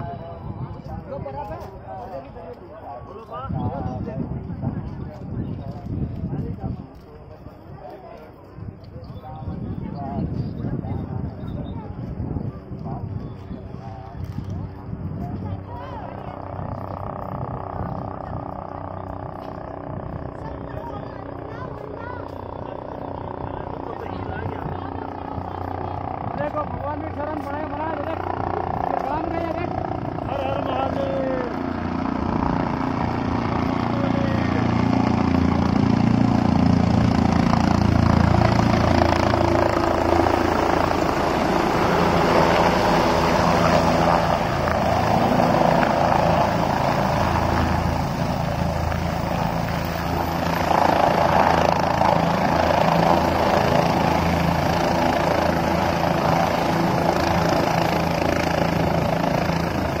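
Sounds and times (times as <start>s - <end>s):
helicopter rotor and engine: 0.0s - 60.0s.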